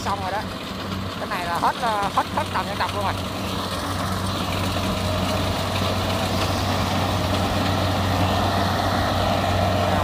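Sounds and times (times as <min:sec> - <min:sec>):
diesel engine hum: 0:00.0 - 0:10.0.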